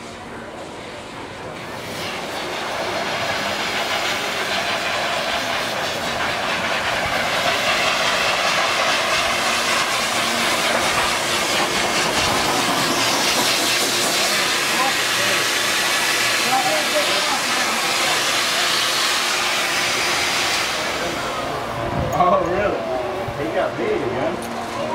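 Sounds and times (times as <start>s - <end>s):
blower hiss of air: 0.0s - 23.9s.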